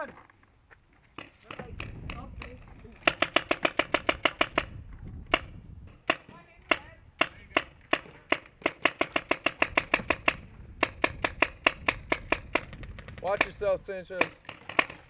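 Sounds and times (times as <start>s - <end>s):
paintball marker firing: 1.2s - 15.0s.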